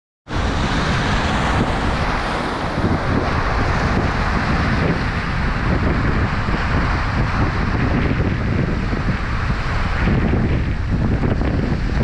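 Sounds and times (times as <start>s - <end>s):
surf breaking on rocks: 0.3s - 12.0s
wind rumble on microphone: 0.3s - 12.0s.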